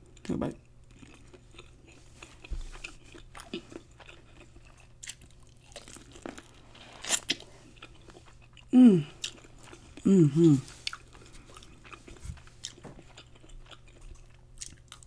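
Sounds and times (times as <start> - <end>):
biting and chewing corn: 0.9 - 10.0, 10.7 - 15.0.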